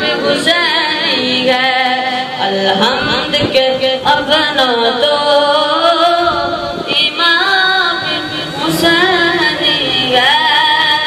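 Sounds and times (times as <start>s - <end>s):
boy singing into a microphone: 0.0s - 11.0s.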